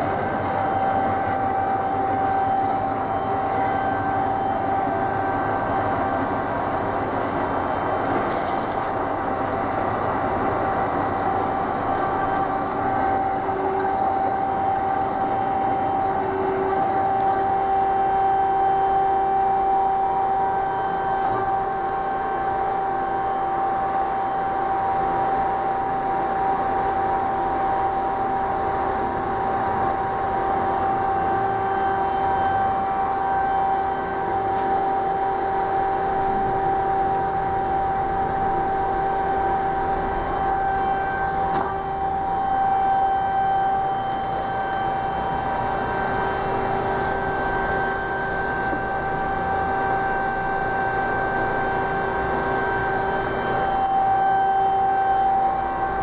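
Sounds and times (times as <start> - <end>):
band saw running: 0.0 - 56.0.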